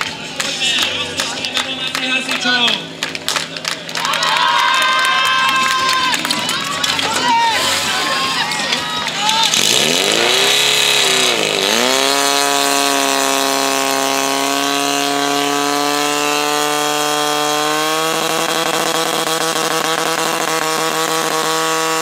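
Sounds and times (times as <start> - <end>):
fire pump engine whining: 0.0 - 22.0.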